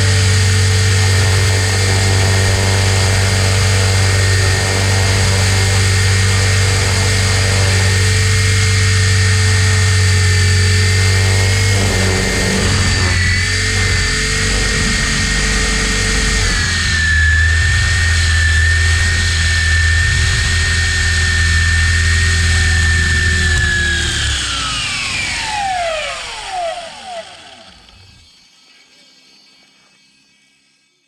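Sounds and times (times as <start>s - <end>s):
rc helicopter motor whine: 0.0s - 29.4s.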